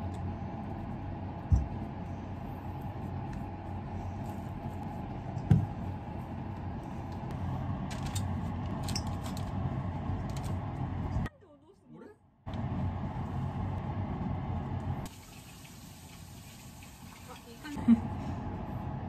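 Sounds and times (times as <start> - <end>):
kitchen background hum: 0.0 - 19.0.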